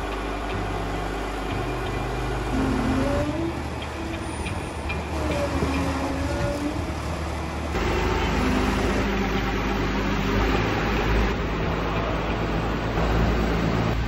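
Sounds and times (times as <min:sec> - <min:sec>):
lift engine humming: 0:00.0 - 0:14.0.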